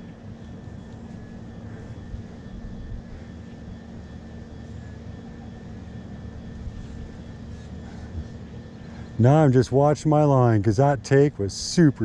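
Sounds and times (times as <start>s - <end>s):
small aircraft engine droning: 0.0s - 12.0s.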